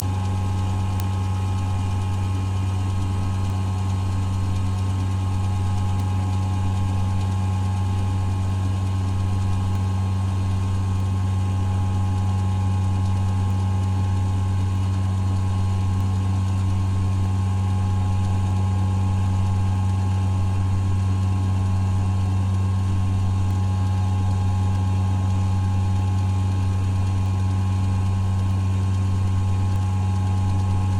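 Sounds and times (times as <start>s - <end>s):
motor droning steadily: 0.0s - 30.9s.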